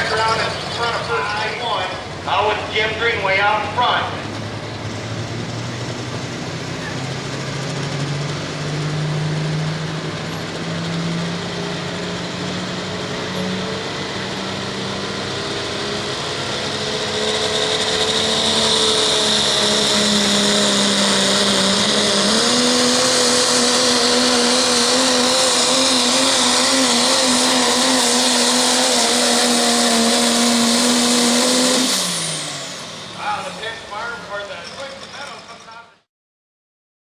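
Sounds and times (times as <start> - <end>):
diesel truck engine at full throttle: 0.0 - 36.1.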